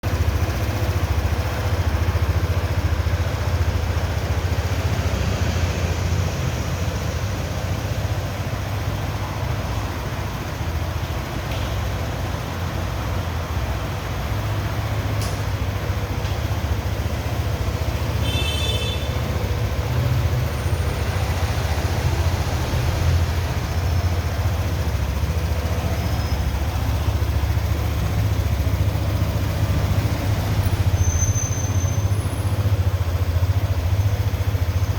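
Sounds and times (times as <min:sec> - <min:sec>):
vehicle rumble: 0:00.0 - 0:34.9.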